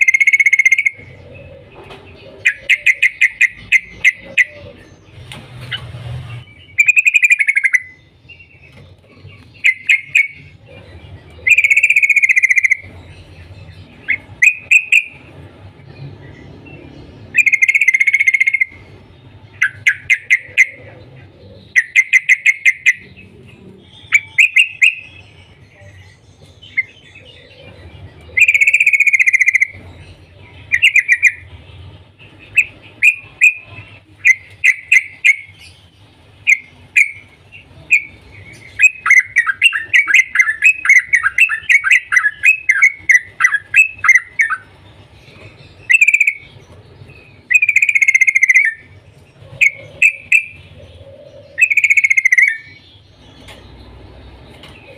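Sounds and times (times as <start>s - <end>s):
bulbul chattering calls: 0.0s - 15.3s, 16.3s - 53.8s.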